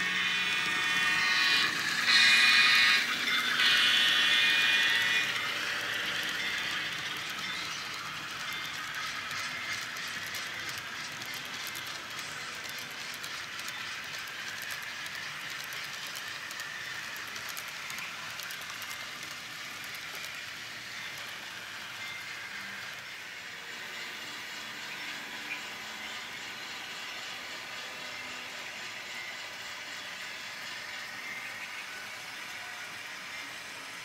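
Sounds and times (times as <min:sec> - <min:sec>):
model train wheels whirring on rail: 0:00.0 - 0:34.0.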